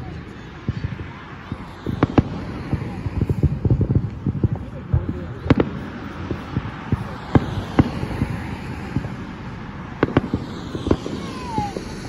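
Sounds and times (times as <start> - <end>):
low rumble: 0.0 - 12.0
firework shells bursting: 0.6 - 12.0.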